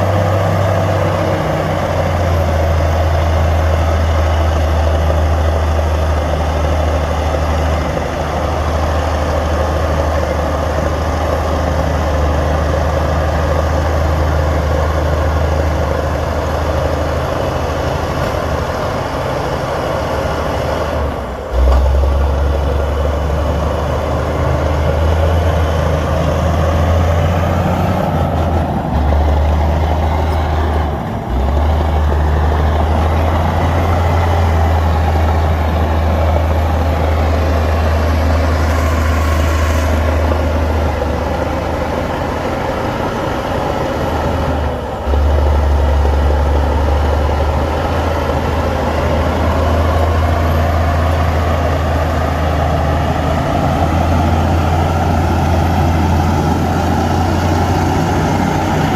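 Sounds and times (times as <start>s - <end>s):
diesel machinery engine drone: 0.0s - 58.9s.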